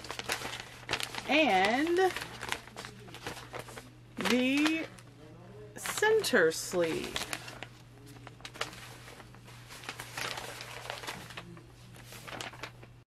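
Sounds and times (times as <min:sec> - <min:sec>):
paper rustling and crinkling: 0:00.0 - 0:05.2, 0:05.8 - 0:13.0.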